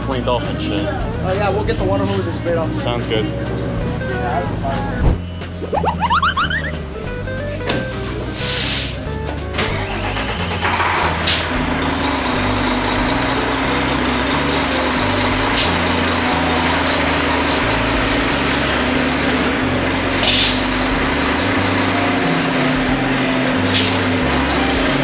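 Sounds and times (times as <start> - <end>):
diesel truck engine humming: 0.0 - 25.0
music with stepping bass line: 0.0 - 25.0.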